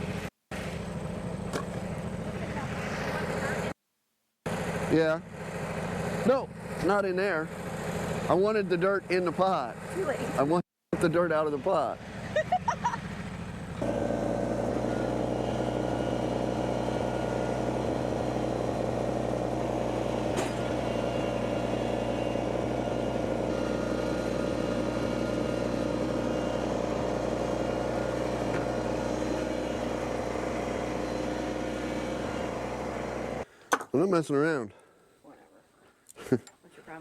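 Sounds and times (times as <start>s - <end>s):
engine running steadily: 0.0s - 3.8s, 4.5s - 33.5s.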